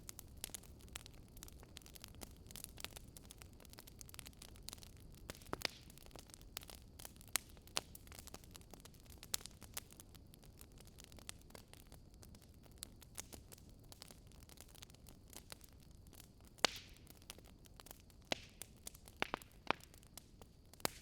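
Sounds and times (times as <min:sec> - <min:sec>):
low fire hiss: 0:00.0 - 0:21.0
wood fire crackling: 0:00.0 - 0:21.0.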